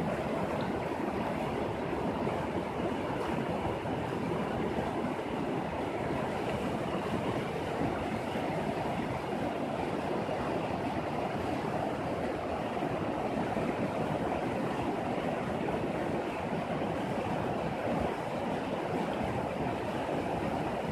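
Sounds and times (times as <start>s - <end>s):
river flowing over stones: 0.0s - 20.9s.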